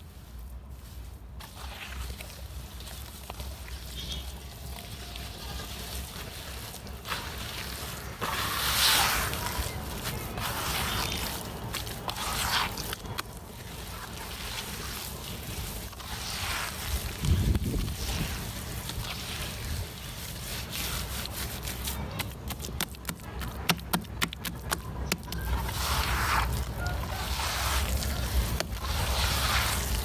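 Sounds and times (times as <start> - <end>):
wet dirt crumbling in water: 1.3 - 30.0.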